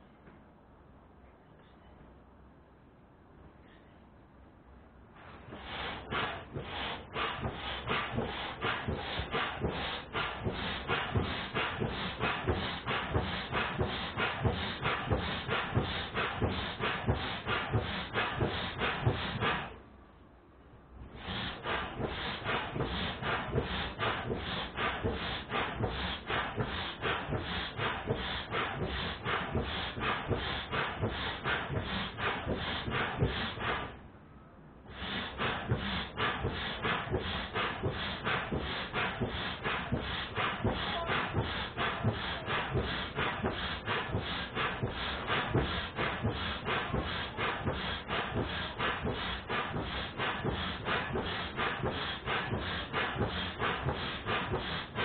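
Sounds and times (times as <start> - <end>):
air pump strokes: 5.2 - 19.8, 21.0 - 34.0, 34.9 - 55.0.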